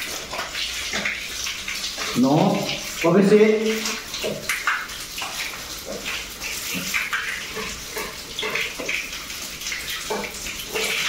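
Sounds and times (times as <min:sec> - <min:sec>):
thin stream of tap water: 0:00.0 - 0:11.0.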